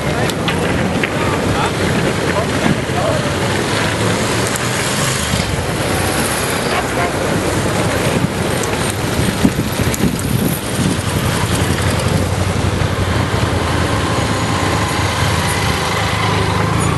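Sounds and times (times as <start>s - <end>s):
wind on microphone: 0.0s - 16.7s
longboard wheels rolling on asphalt: 0.0s - 16.9s
motorcycle engine hum: 0.0s - 16.9s.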